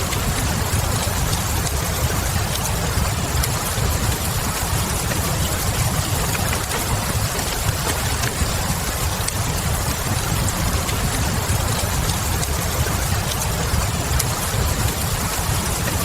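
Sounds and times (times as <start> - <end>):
rain hissing: 0.0 - 16.0
wood fire crackling: 0.0 - 16.0.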